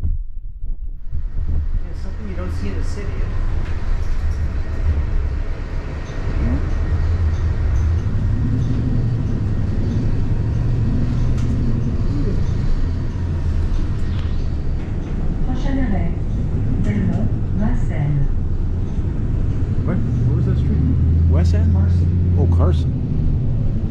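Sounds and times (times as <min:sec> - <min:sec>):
bus drivetrain and road rumble: 0:01.0 - 0:23.9
faint wavering hum: 0:01.0 - 0:23.9.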